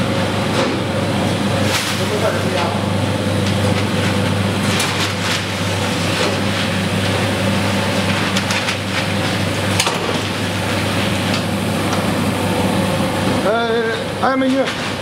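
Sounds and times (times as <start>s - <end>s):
electric machine hum: 0.0s - 15.0s.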